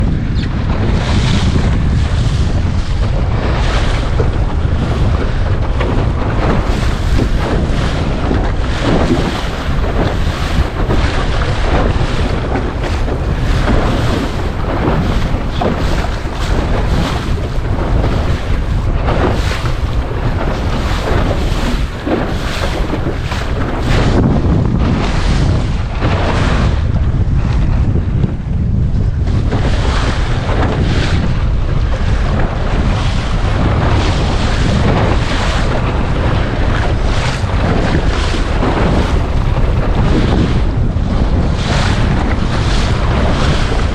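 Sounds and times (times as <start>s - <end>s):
waves slapping against hull: 0.0s - 43.9s
wind buffeting microphone: 0.0s - 43.9s.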